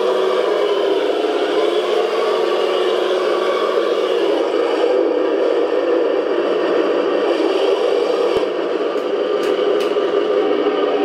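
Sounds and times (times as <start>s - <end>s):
simulated tank engine through speaker: 0.0s - 11.0s.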